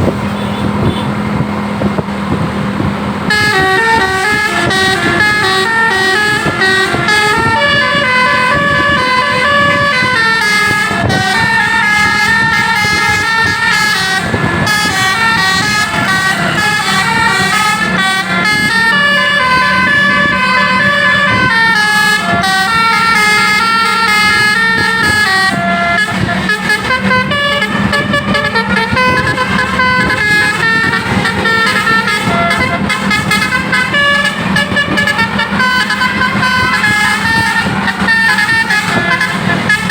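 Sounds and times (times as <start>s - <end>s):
multi-trumpet bus air horn melody: 0.1s - 1.2s, 3.1s - 39.9s.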